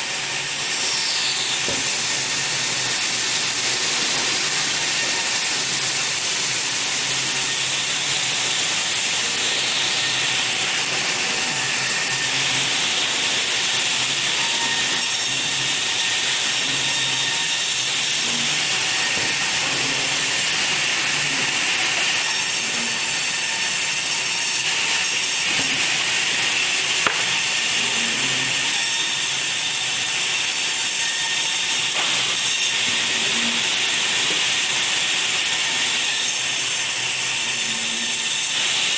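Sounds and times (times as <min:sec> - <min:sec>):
saw cutting through wood: 0:00.0 - 0:38.9.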